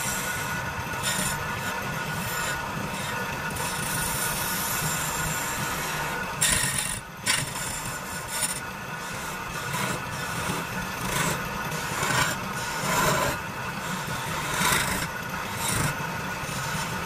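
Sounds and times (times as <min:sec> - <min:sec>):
chisel scraping spinning wood: 0:00.0 - 0:17.0
wood lathe humming: 0:00.0 - 0:17.0.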